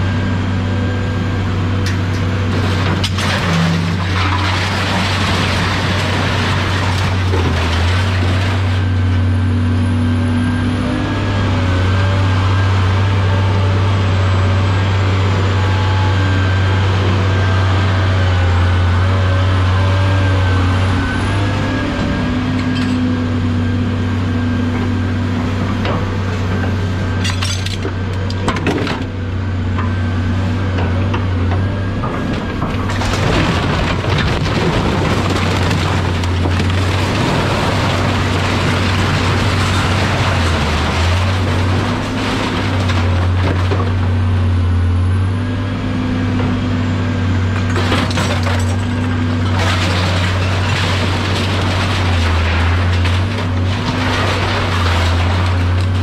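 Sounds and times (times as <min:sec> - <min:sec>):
large vehicle engine running: 0:00.0 - 0:56.0.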